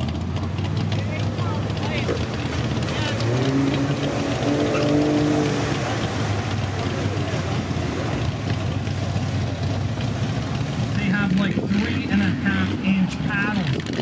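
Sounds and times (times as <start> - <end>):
mud and water splashing: 0.0 - 14.0
suv engine revving: 0.0 - 14.0.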